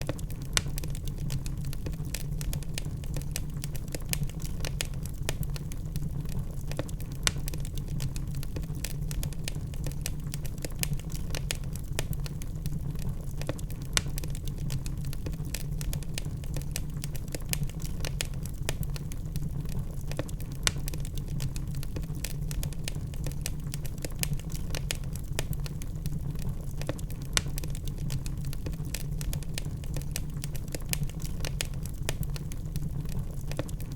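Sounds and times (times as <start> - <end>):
logs crackling in fireplace: 0.0 - 33.9.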